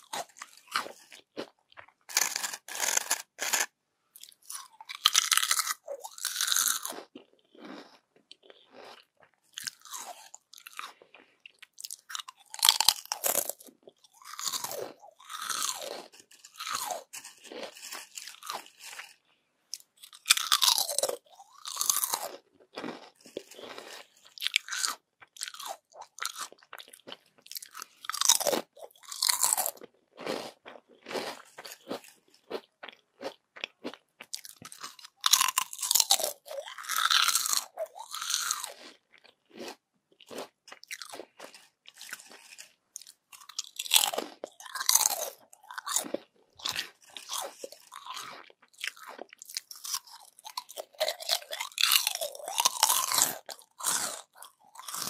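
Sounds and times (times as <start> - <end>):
crunching chips: 0.0 - 55.0.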